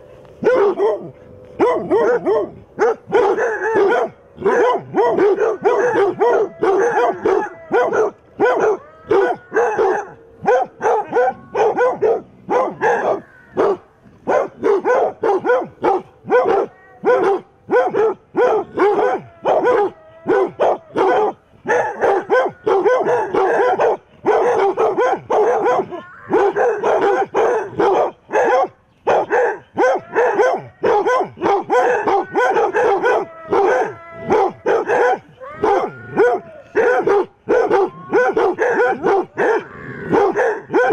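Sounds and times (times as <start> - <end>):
dogs barking and baying: 0.0 - 40.9.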